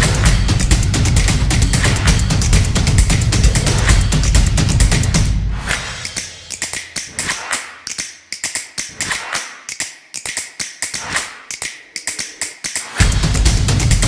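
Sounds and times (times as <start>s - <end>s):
rapid sharp taps and clicks: 0.0s - 14.0s.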